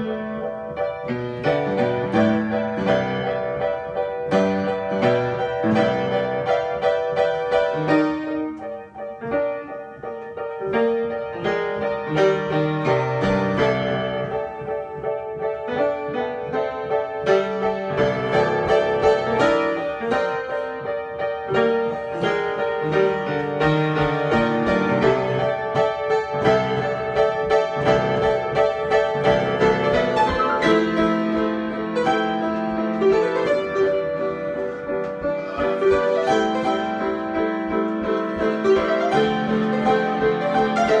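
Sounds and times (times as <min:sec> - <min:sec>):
solo piano improvisation: 0:00.0 - 0:41.0.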